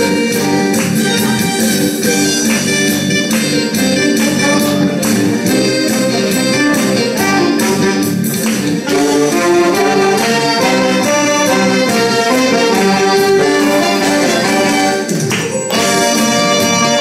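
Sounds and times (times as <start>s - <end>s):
saxophone ensemble playing: 0.0s - 17.0s.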